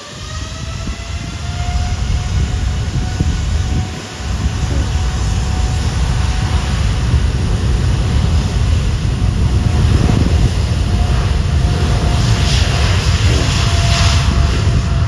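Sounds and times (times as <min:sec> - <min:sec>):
faint steady whine: 0:00.0 - 0:15.0
jet engines roaring: 0:00.0 - 0:15.0.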